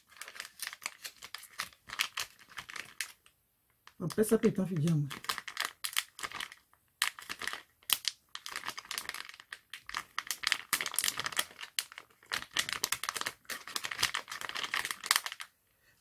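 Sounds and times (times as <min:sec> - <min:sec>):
plastic sachet crinkling: 0:00.0 - 0:15.5.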